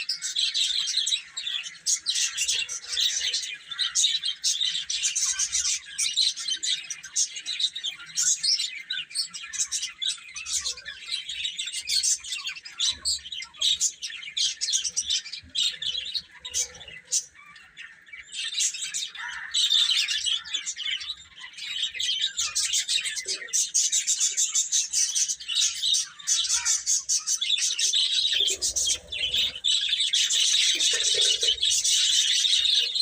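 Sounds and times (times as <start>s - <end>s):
baby chicks peeping: 0.0s - 33.0s.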